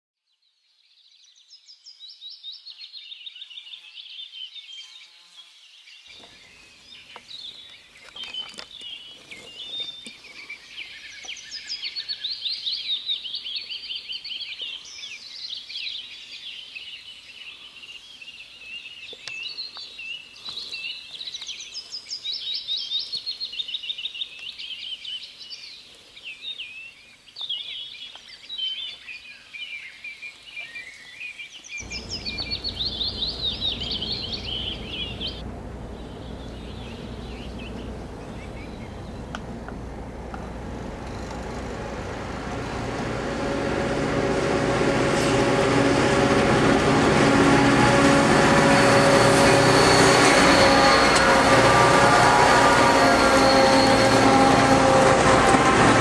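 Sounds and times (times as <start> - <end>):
birds and insects chirping: 5.1 - 55.9.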